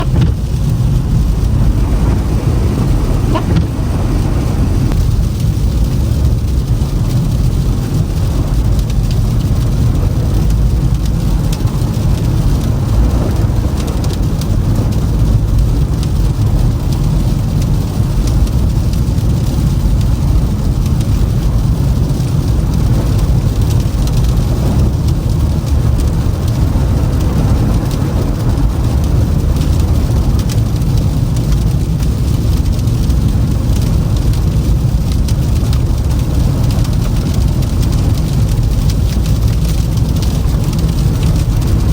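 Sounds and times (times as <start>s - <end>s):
tyres and engine rumble: 0.0s - 41.9s
faint irregular ticks: 4.9s - 41.9s.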